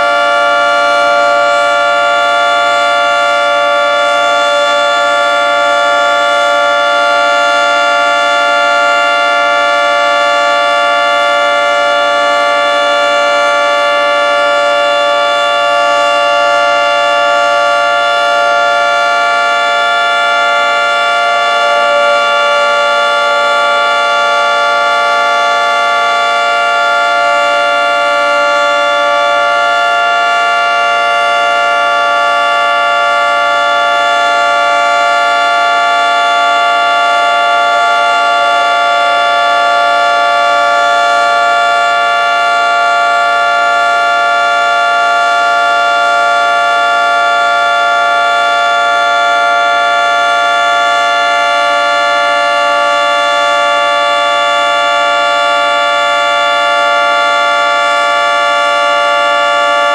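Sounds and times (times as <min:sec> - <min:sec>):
warning siren steady chord: 0:00.0 - 0:59.9.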